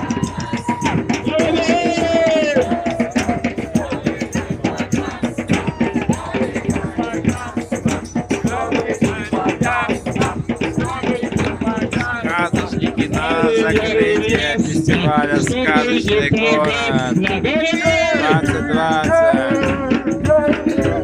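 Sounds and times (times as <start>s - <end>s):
fast drumming: 0.0s - 21.0s
group singing and chanting: 0.0s - 21.0s
shaken percussion: 0.0s - 21.0s.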